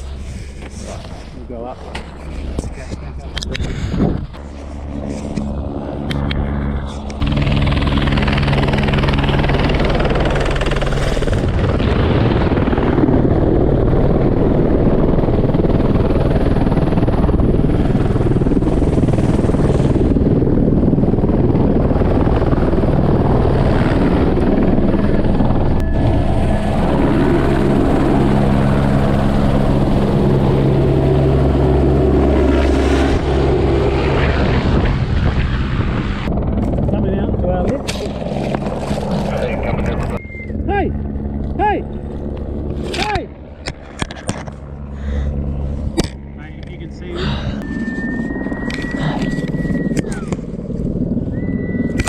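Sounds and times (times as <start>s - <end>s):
low drone of steady tones: 0.0s - 36.7s, 39.5s - 52.0s
helicopter engine and rotor: 0.0s - 52.0s.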